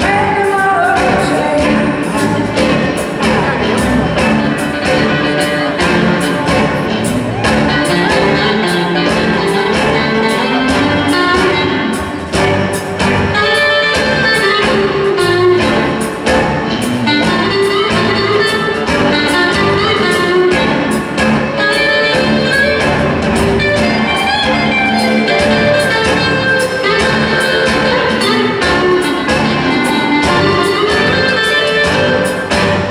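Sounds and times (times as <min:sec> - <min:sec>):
bass guitar: 0:00.0 - 0:32.9
drum beat: 0:00.0 - 0:32.9
electric guitars: 0:00.0 - 0:32.9.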